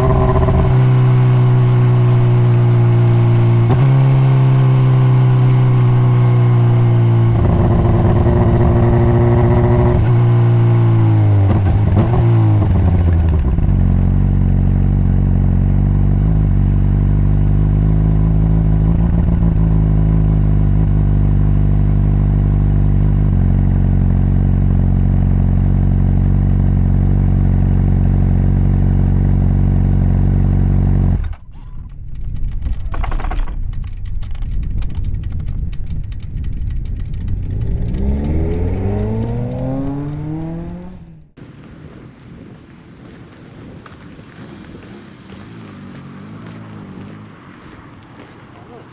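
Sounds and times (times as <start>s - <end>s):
motorcycle engine running: 0.0s - 41.4s, 45.3s - 48.8s.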